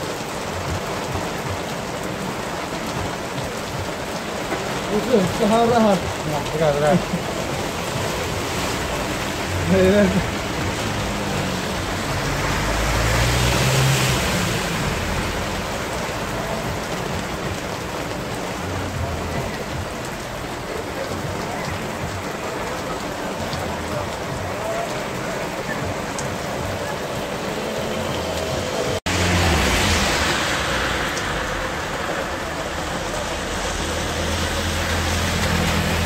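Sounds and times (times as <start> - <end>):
car driving through water: 0.0 - 36.0
heavy rain on standing water: 0.0 - 36.0.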